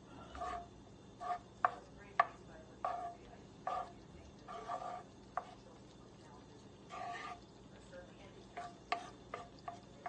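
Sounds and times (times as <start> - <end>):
wooden spatula scraping a pan: 0.3 - 5.8, 6.5 - 7.5, 8.4 - 10.0.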